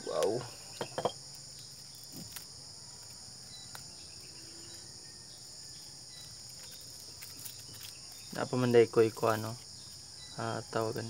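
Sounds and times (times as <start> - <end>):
insect chorus chirring: 0.0 - 11.0.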